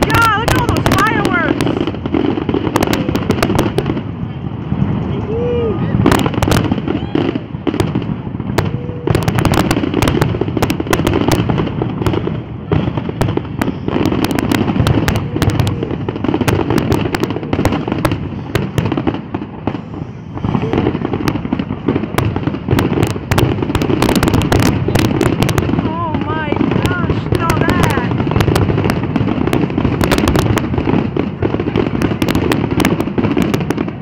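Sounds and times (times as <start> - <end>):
fireworks booming and crackling: 0.0 - 34.0.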